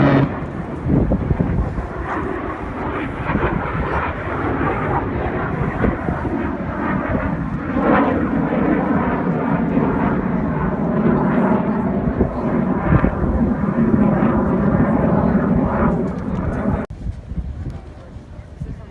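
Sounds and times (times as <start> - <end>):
jet aircraft engines running: 0.0 - 16.9.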